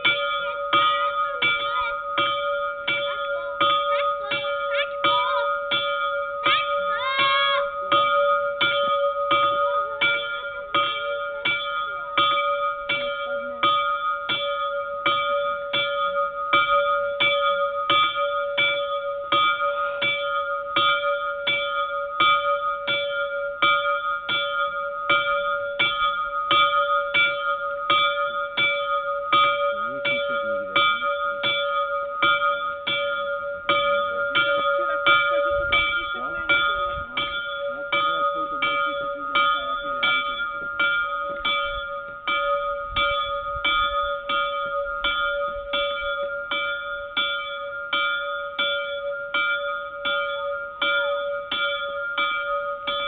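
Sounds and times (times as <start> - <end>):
small bell ringing: 0.0 - 53.0.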